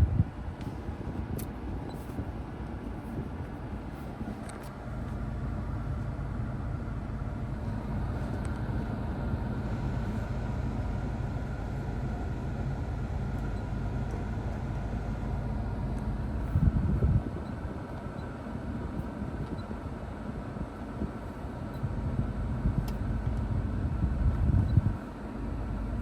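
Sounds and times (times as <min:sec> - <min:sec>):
car engine running: 0:00.1 - 0:26.0.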